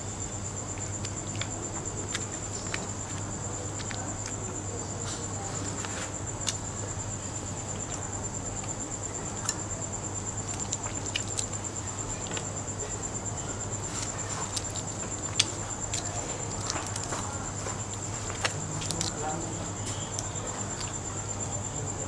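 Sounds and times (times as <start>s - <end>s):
cricket trilling: 0.0s - 22.0s.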